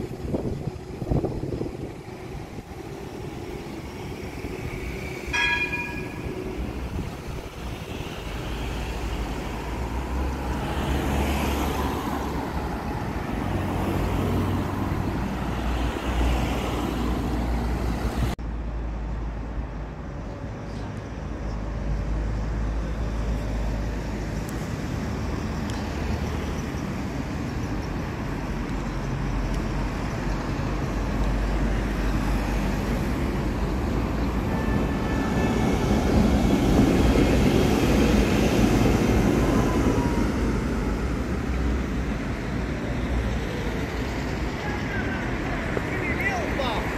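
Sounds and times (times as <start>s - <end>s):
street traffic: 0.0s - 46.9s
tram running on rails: 0.0s - 46.9s.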